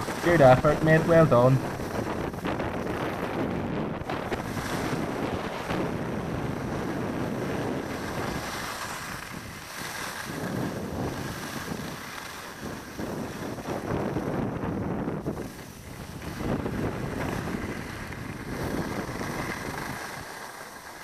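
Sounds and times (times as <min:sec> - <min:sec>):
skis sliding over snow: 0:00.0 - 0:21.0
wind buffeting microphone: 0:00.0 - 0:21.0.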